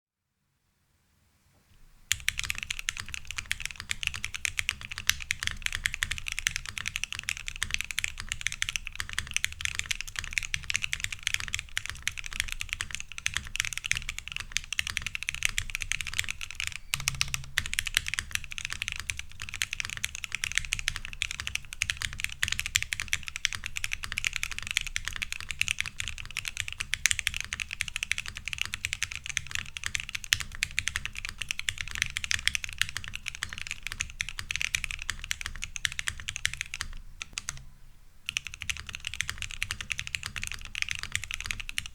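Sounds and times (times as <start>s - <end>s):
fast typing on mechanical keyboard: 2.1s - 37.6s, 38.3s - 41.9s.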